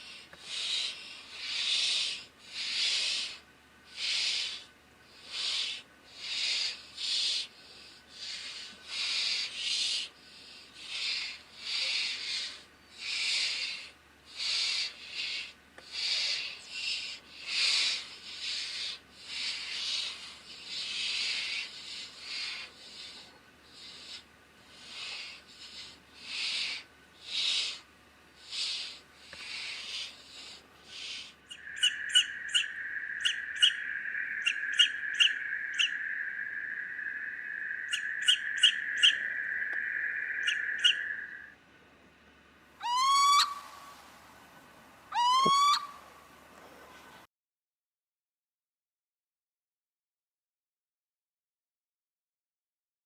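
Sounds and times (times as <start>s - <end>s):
owl screeching calls: 0.0s - 27.8s, 28.4s - 41.6s, 42.8s - 44.1s, 45.1s - 46.2s
owl rasping hisses: 0.0s - 41.5s, 42.8s - 44.3s, 45.1s - 46.1s.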